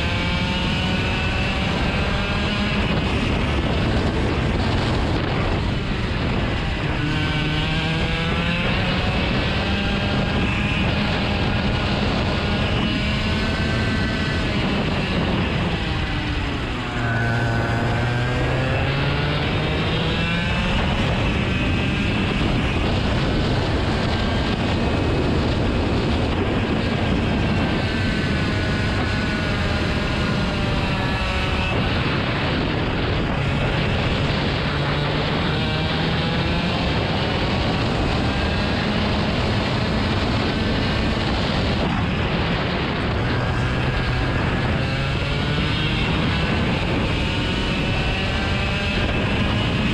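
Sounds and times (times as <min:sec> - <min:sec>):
engine running loudly: 0:00.0 - 0:49.9.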